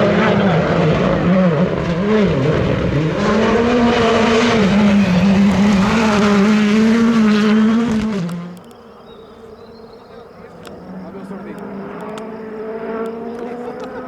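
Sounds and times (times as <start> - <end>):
rally car engine revving: 0.0 - 8.7, 10.5 - 14.0.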